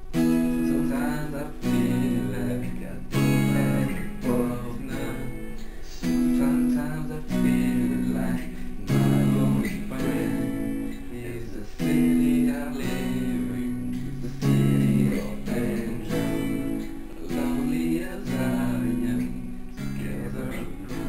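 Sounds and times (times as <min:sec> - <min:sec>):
electric guitar strummed: 0:00.0 - 0:21.0.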